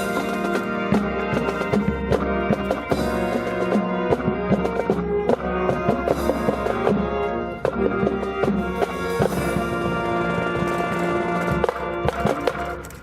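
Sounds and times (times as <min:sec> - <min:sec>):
brass band playing: 0:00.0 - 0:13.0
steady drum beat: 0:00.0 - 0:13.0.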